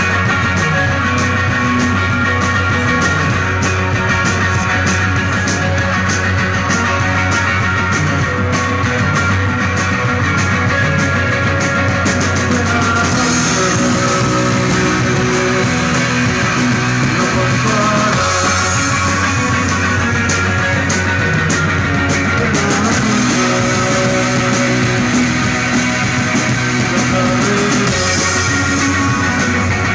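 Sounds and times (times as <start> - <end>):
electric guitar: 0.0 - 29.9
rock band playing live: 0.0 - 29.9.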